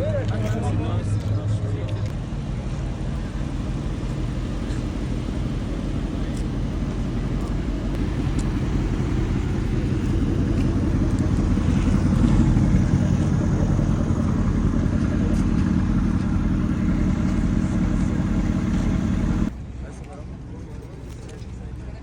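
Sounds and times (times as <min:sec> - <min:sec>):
car engine running: 0:00.2 - 0:19.6.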